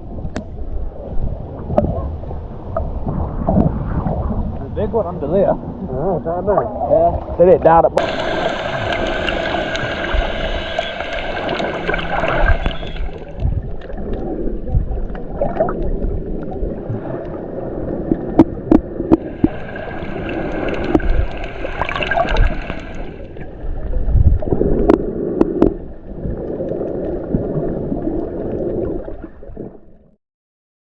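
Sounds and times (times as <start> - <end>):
seawater gurgling and sloshing: 0.0 - 30.2.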